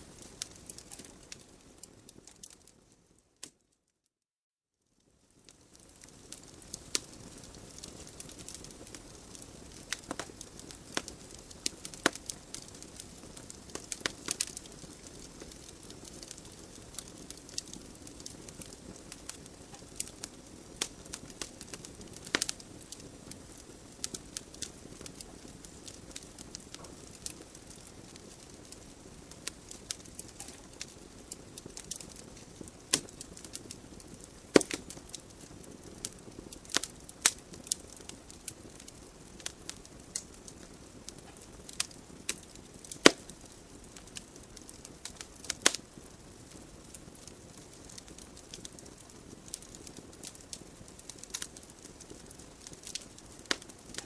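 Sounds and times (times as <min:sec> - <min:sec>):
fire crackles and pops: 0:00.0 - 0:03.7, 0:05.0 - 0:54.0.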